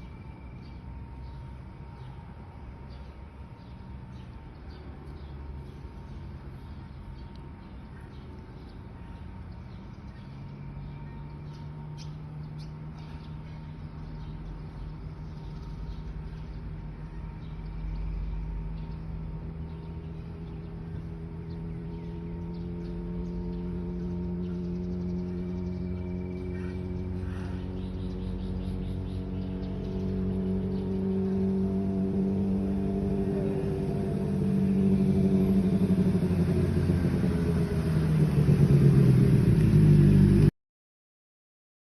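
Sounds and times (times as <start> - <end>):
motorcycle engine idling: 0.0 - 40.5.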